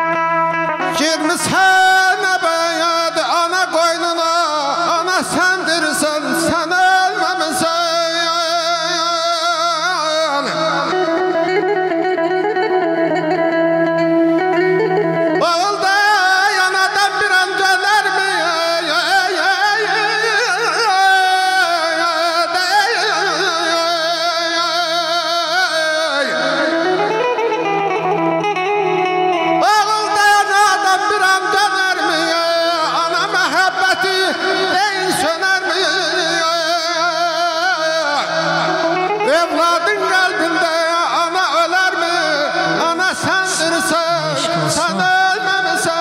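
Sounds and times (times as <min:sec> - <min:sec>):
man singing into a microphone: 0:00.0 - 0:46.0.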